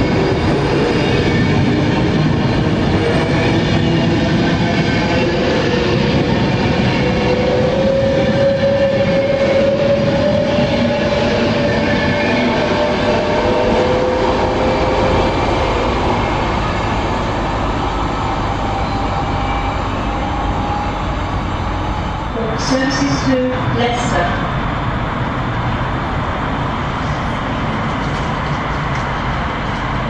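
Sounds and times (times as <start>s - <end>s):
train whine rising in pitch: 0.0s - 28.5s
train wheels rumbling on track: 0.0s - 30.0s.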